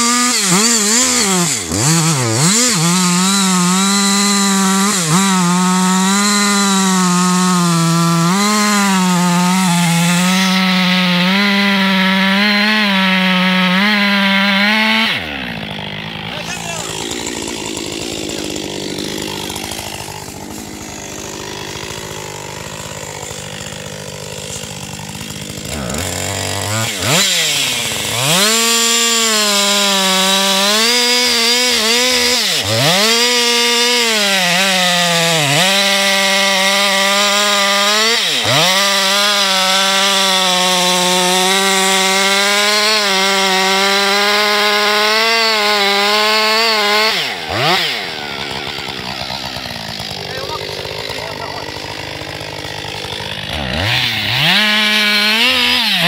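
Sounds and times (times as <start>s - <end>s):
chainsaw cutting tree trunk: 0.0s - 56.0s.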